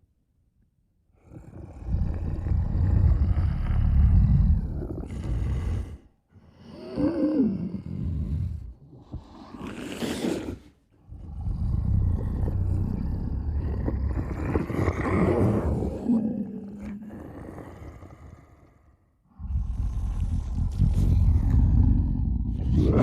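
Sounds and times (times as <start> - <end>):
monster growling low and rough: 1.2 - 6.1, 6.7 - 23.0.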